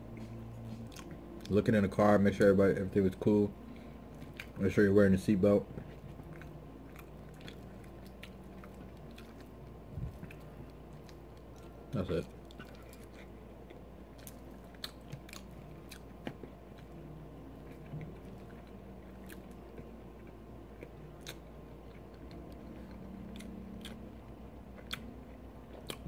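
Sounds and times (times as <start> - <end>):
man chewing food: 0.0 - 1.8, 3.6 - 26.0.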